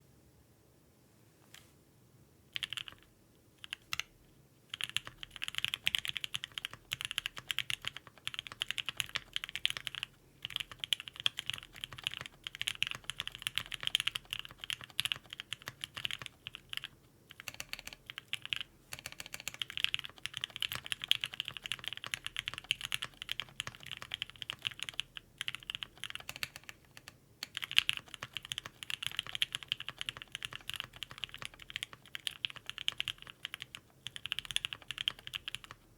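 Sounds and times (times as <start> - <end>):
fast mechanical keyboard typing: 2.6 - 4.1, 4.7 - 35.8.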